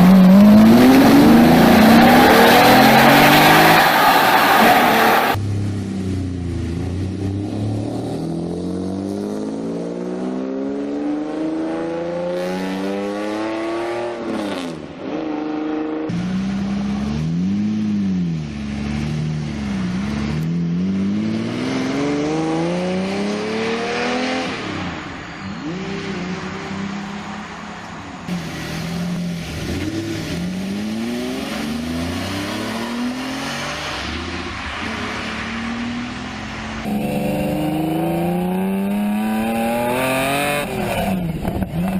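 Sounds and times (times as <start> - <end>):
sports car engine accelerating: 0.0 - 24.8, 28.2 - 41.9.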